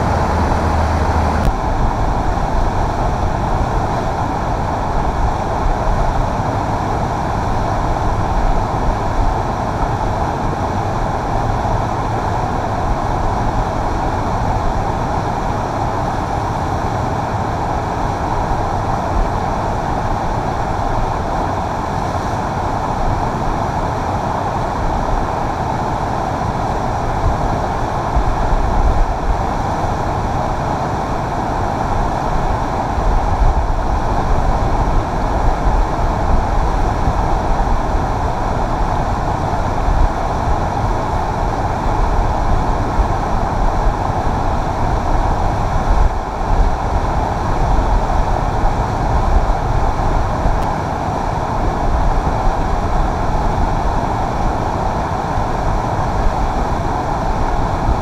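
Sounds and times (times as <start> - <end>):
whitewater rapids roaring: 0.0 - 58.0.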